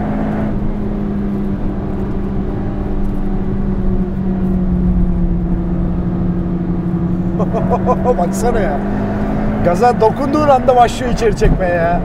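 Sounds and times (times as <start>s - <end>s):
car engine pulling under load: 0.0s - 11.6s.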